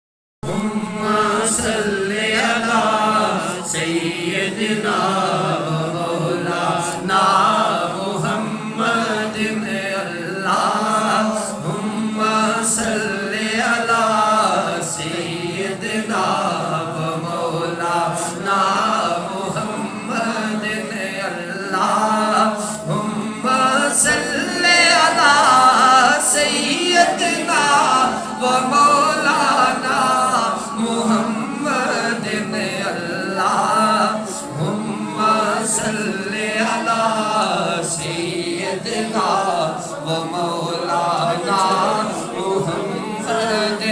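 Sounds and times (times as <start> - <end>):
person chanting devotional hymn: 0.4 - 43.9.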